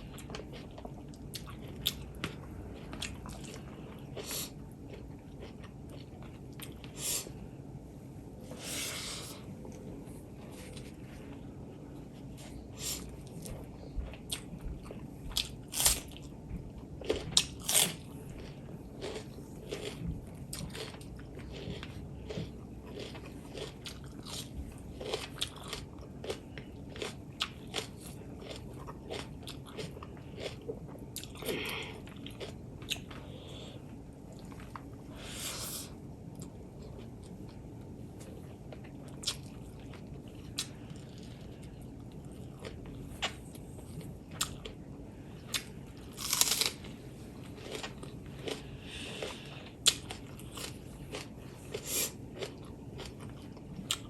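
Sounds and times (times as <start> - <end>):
person chewing and biting food: 0.0 - 7.4, 12.2 - 54.0.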